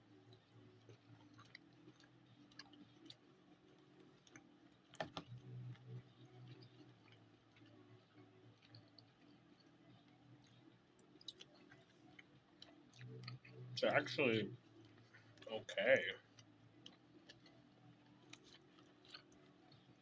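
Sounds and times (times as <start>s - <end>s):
chewing steak: 0.0s - 20.0s
faint low hum: 0.0s - 20.0s.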